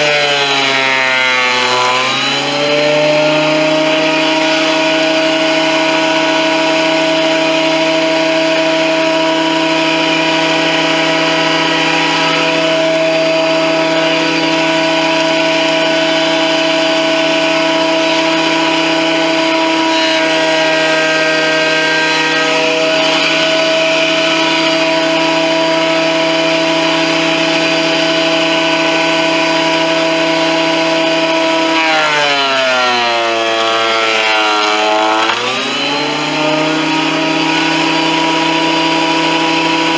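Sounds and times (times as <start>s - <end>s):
thickness planer whining: 0.0s - 39.9s.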